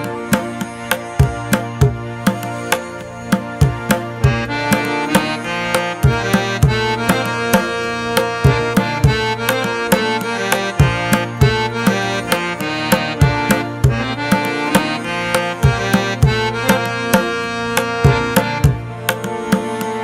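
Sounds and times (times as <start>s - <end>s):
sustained melody: 0.0s - 20.0s.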